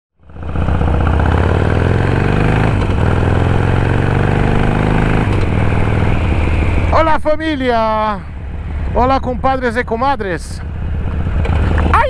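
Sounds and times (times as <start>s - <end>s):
motorcycle engine running: 0.2s - 12.0s.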